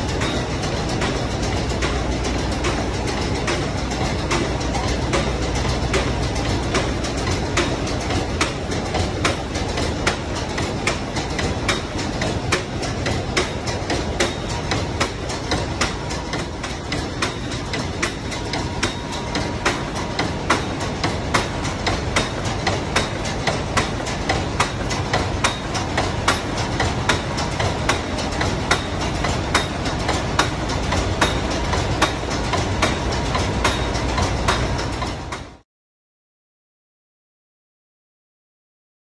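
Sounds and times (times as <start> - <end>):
marine diesel engine running: 0.0 - 35.6
valve gear clacking: 0.0 - 35.6.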